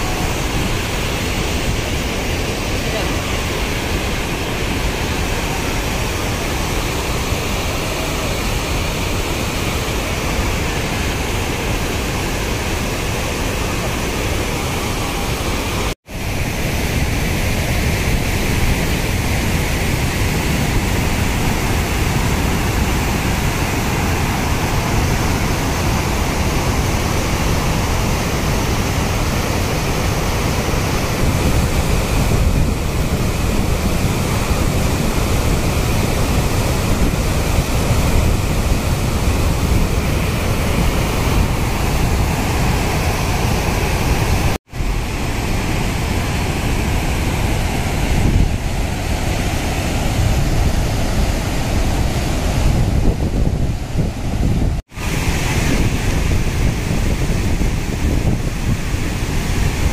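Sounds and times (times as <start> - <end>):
rush of falling water: 0.0 - 59.9.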